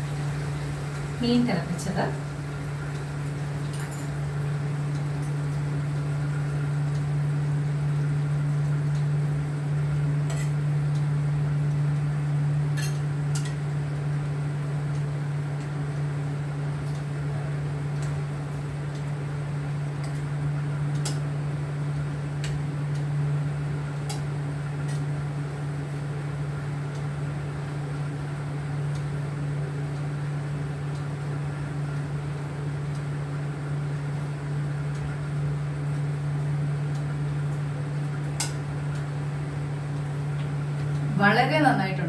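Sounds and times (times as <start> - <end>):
low motor hum: 0.0 - 42.0.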